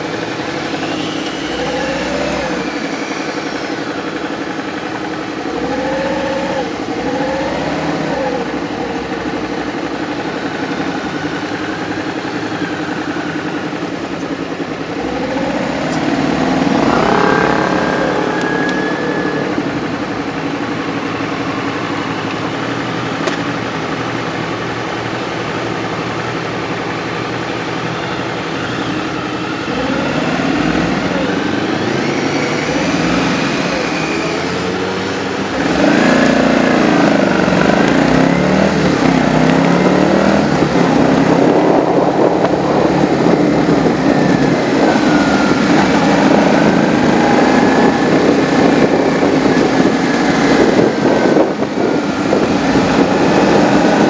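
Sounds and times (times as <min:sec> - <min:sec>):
motorcycle engines idling and revving: 0:00.0 - 0:54.0.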